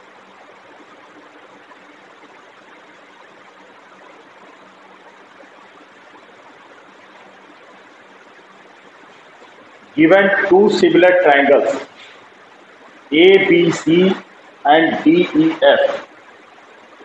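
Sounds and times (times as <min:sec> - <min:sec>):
faint hum: 0:00.0 - 0:17.0
low background hiss: 0:00.0 - 0:17.0.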